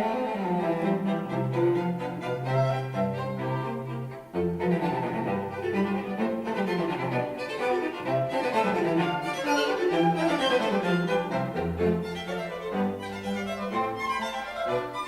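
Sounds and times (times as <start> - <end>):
classical string music on speakers: 0.0 - 15.0.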